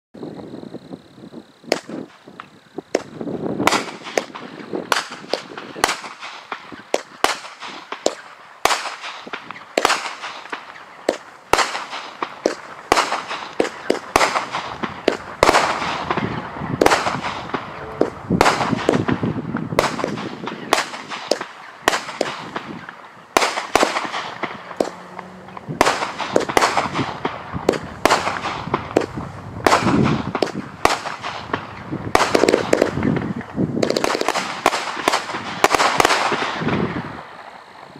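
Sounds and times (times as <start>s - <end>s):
firework bangs: 1.6s - 37.9s.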